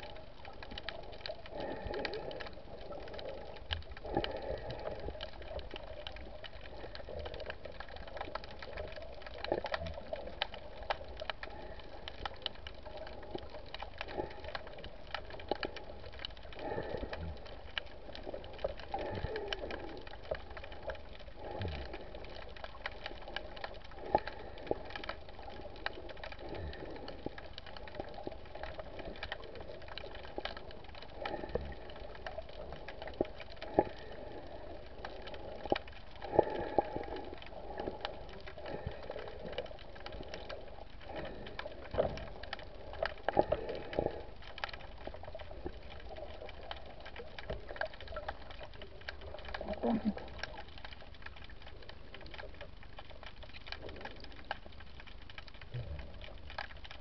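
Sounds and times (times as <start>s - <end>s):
snapping shrimp crackle: 0.1s - 57.0s.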